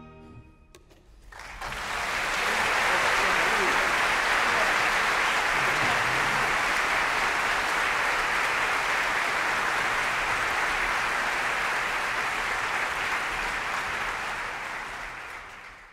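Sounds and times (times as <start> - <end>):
audience applauding: 1.2 - 15.9.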